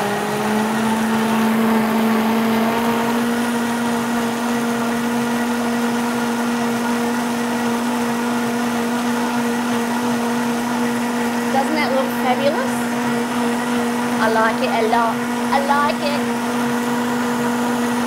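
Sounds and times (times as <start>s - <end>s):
blender motor whining: 0.0s - 18.0s.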